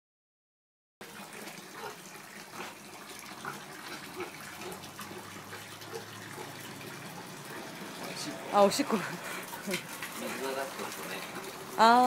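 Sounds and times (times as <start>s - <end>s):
water running: 1.0s - 12.0s.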